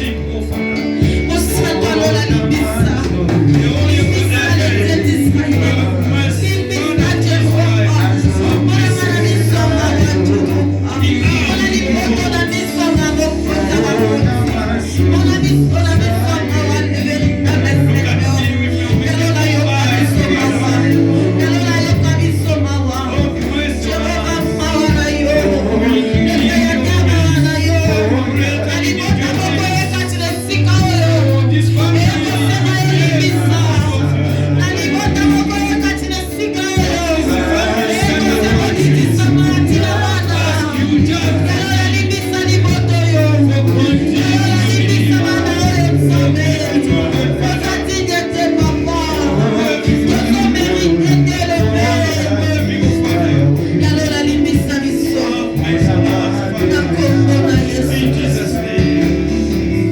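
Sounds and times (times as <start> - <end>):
low held bass notes: 0.0 - 59.9
worship singing with band: 0.0 - 59.9.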